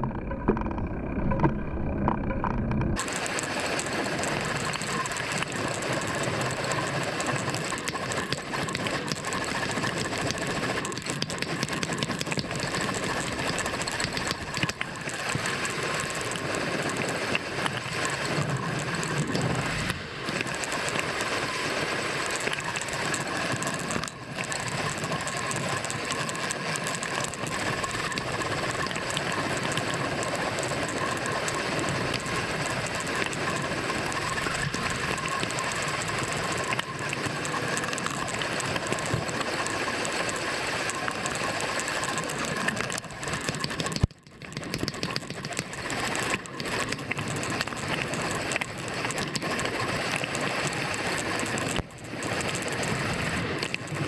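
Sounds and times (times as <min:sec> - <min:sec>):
bicycle freewheel hub ticking: 0:00.0 - 0:54.0.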